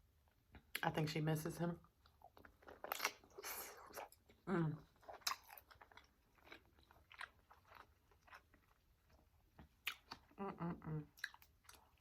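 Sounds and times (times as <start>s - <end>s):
soft chewing and biting: 2.0s - 12.0s.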